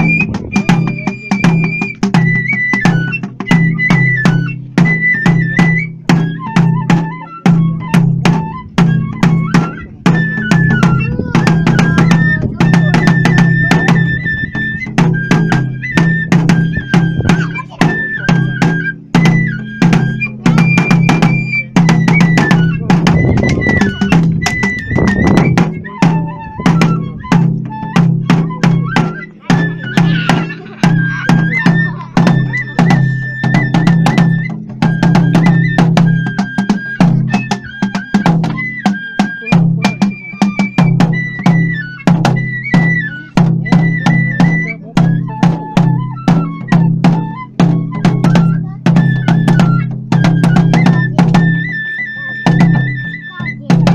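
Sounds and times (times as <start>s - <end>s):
bamboo flute melody: 0.0s - 53.9s
drum beats: 0.0s - 53.9s.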